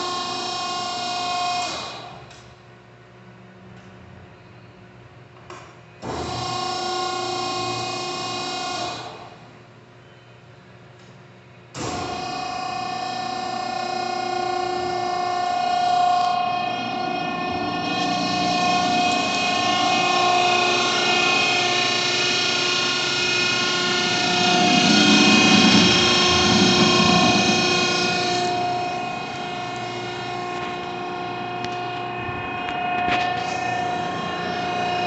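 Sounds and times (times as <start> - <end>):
electric motor and hydraulic pump whine: 0.0 - 2.5, 6.0 - 9.5, 11.7 - 35.0.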